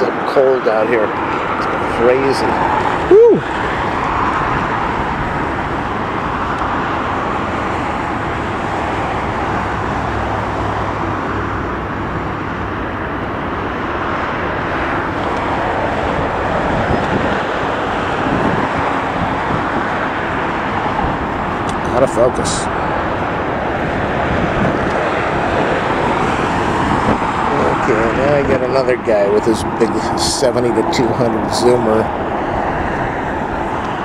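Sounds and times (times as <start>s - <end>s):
distant jet engines: 0.0s - 34.0s
road traffic roar: 0.0s - 34.0s.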